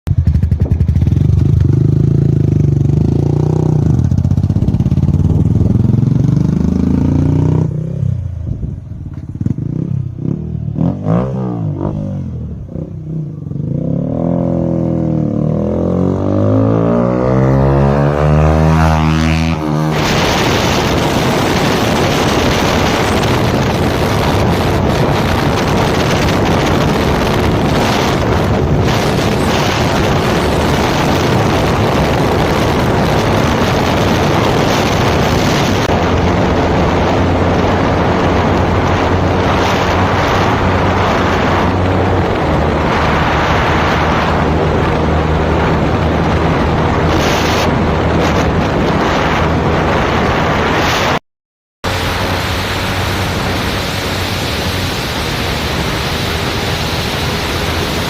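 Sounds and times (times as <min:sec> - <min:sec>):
motorcycle engine drone: 0:00.1 - 0:51.2, 0:51.8 - 0:58.0
wind rushing on microphone: 0:00.1 - 0:51.2, 0:51.9 - 0:58.0.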